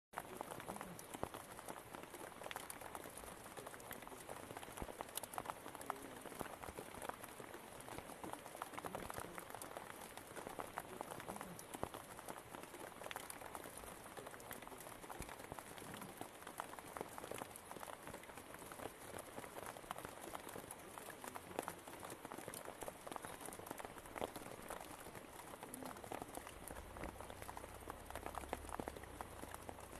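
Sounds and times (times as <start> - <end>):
rain on foliage: 0.2 - 29.9.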